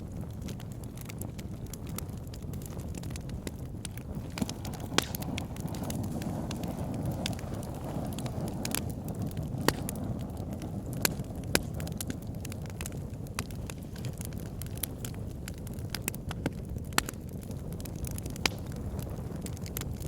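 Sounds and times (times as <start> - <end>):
flames rumbling: 0.0 - 20.0
logs crackling and popping: 0.0 - 20.0.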